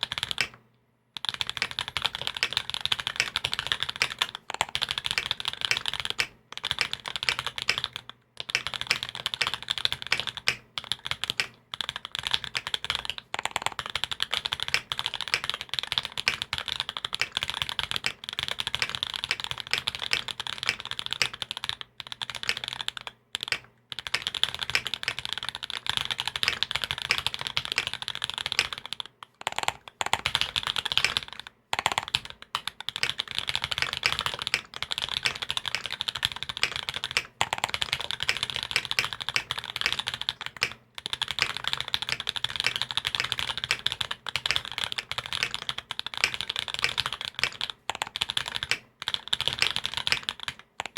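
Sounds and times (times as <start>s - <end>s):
mechanical keyboard typing: 0.0s - 0.6s, 1.2s - 50.9s.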